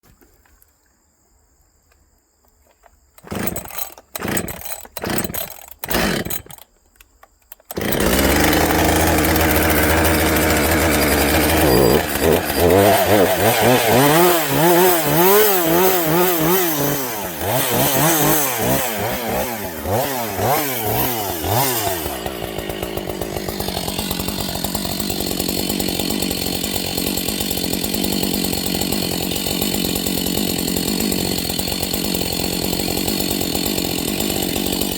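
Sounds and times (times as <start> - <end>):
chainsaw engine revving: 3.2 - 6.8, 7.5 - 34.9.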